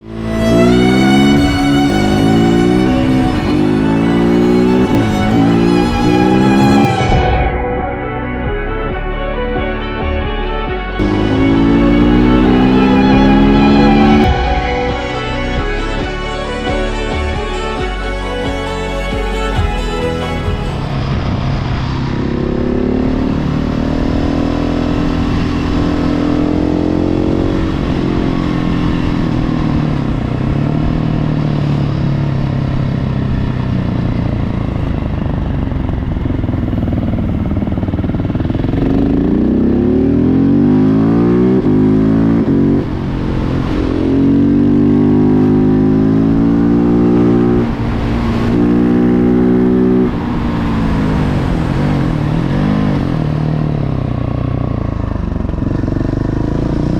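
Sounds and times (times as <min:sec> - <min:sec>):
motorcycle engine accelerating: 0:00.0 - 0:08.6, 0:10.8 - 0:56.9.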